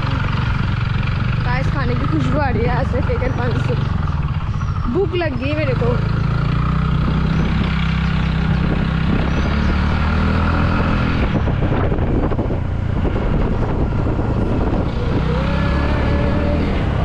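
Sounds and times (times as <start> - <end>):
road noise on dirt road: 0.0 - 17.0
vehicle engine running: 0.0 - 17.0
wind noise: 0.0 - 17.0.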